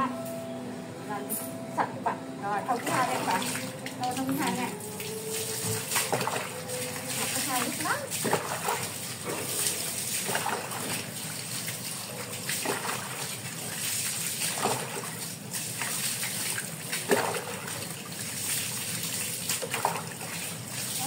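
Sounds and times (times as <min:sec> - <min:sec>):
water trickling and splashing on tiles: 0:02.5 - 0:21.0
loud water splashes: 0:02.6 - 0:21.0.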